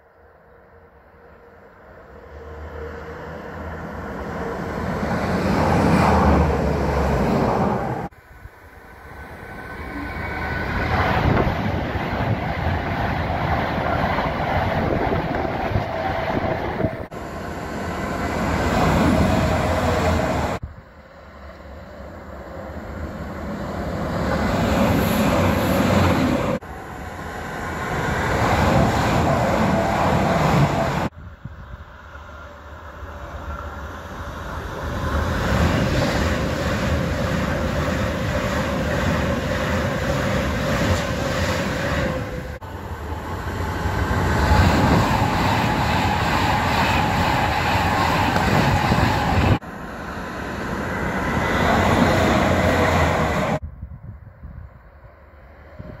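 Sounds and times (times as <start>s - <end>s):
trains passing at speed: 0.0s - 53.6s, 54.7s - 56.0s
wheels rushing on rail: 0.1s - 53.6s.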